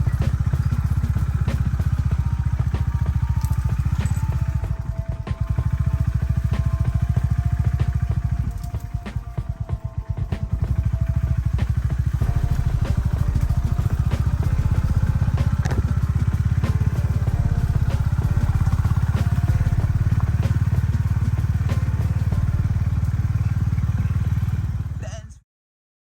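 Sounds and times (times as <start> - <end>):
motorcycle engine running: 0.0 - 25.3.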